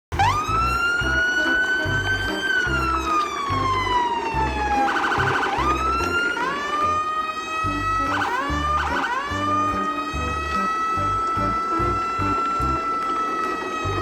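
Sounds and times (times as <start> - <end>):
siren wailing: 0.1 - 14.0
music with bass beat: 0.2 - 6.4, 7.7 - 12.9.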